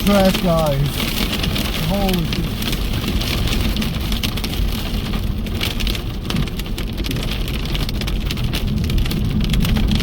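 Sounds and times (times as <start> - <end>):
hail and rain pelting a car: 0.0 - 10.0.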